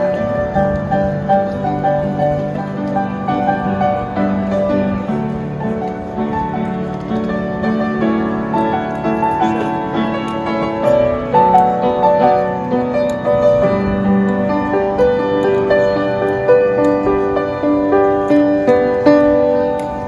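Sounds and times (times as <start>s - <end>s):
upright piano melody: 0.0s - 20.0s.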